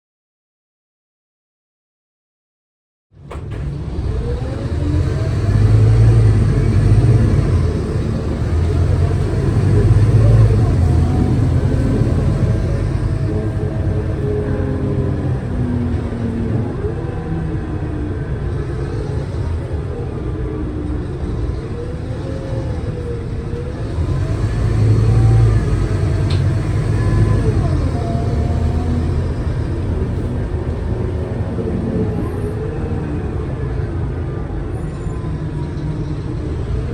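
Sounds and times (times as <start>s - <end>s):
bus engine rumbling: 3.2s - 36.9s.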